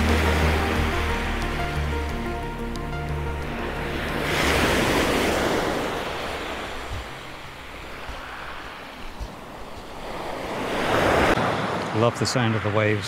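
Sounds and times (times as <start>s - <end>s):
waves breaking on beach: 0.0s - 2.4s, 3.4s - 12.7s.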